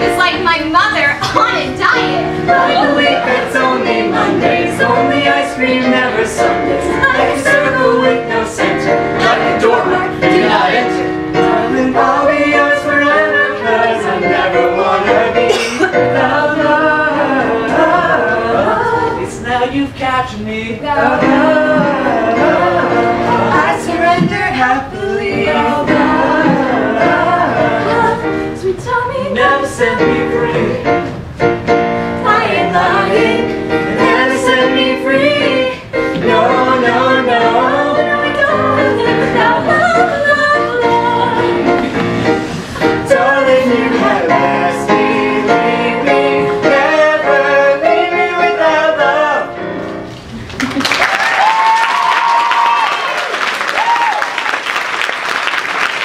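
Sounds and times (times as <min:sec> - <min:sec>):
musical theatre music: 0:00.0 - 0:56.0
people singing together: 0:01.0 - 0:31.2, 0:32.0 - 0:50.4.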